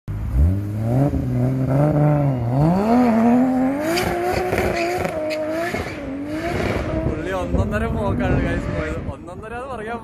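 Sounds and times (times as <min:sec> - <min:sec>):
car engine accelerating: 0:00.1 - 0:09.1.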